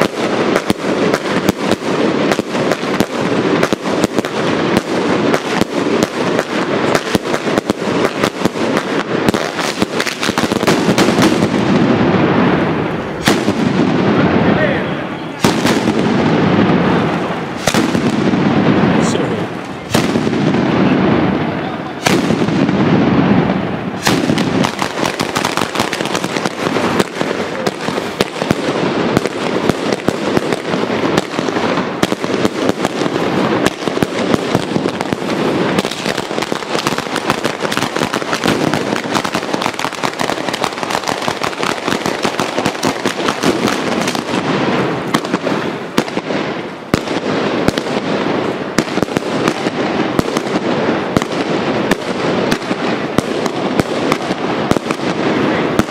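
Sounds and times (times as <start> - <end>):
firecrackers crackling: 0.0 - 55.9.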